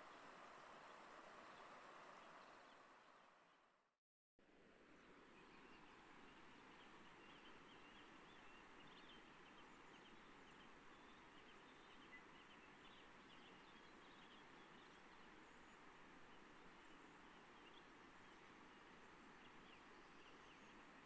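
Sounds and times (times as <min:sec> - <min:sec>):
small birds chirping: 0:00.0 - 0:03.6, 0:05.0 - 0:21.0.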